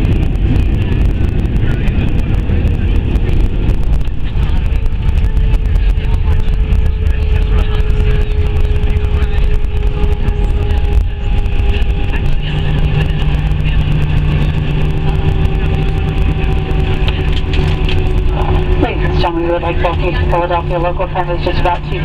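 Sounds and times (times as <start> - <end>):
aircraft rolling rumble: 0.0 - 22.0
low hum: 0.0 - 22.0
steady whine: 0.0 - 22.0.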